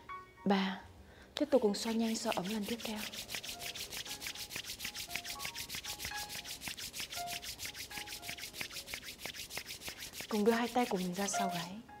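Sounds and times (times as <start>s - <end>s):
palms rubbing together: 1.7s - 11.8s.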